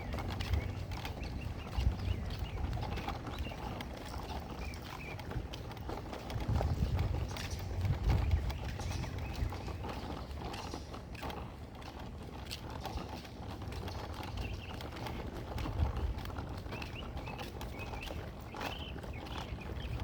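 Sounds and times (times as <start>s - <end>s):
footsteps on pavement: 0.0s - 20.0s.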